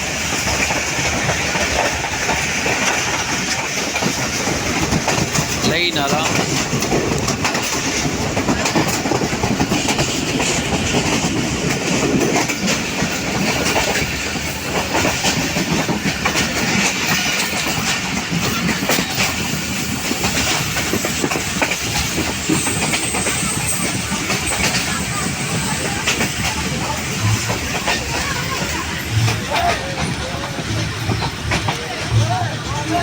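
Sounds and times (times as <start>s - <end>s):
train rumble: 0.0s - 33.0s
wheels clicking over rail joints: 0.0s - 33.0s.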